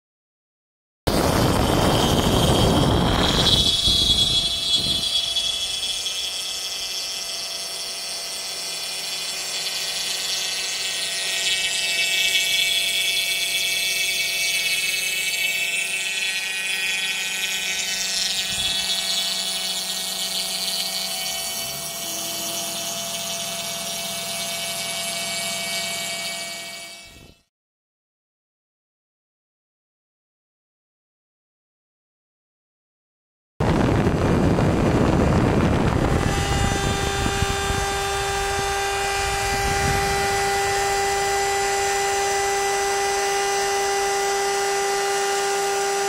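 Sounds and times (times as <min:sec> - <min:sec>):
router spindle whine: 0:01.1 - 0:27.5, 0:33.6 - 0:46.0.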